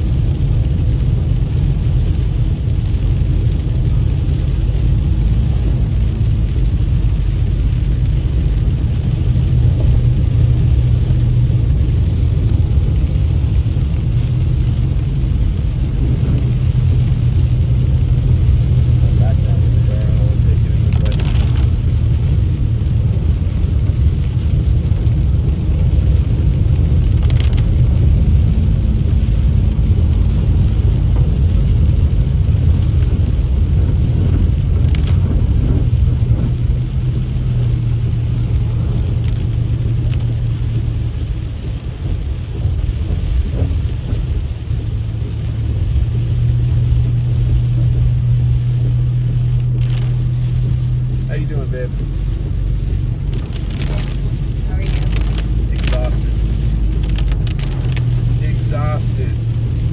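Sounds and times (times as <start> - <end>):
engine and tyres on wet road: 0.0 - 59.9
rain hiss: 0.0 - 59.9.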